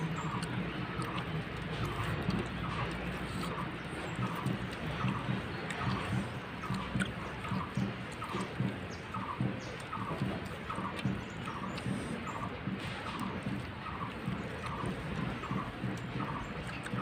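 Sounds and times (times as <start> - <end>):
chewing and squishing of rice: 0.0 - 17.0
steady background noise: 0.0 - 17.0.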